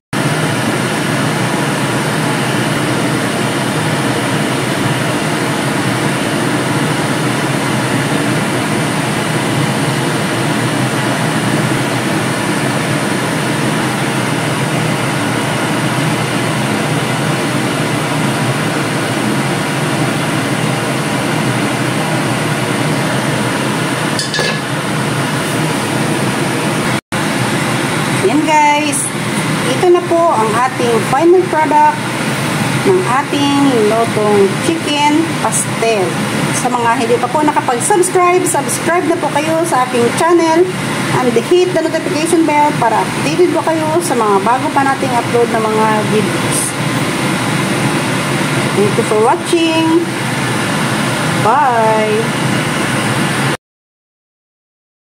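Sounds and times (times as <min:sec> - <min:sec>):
ventilation fan whooshing: 0:00.1 - 0:53.6.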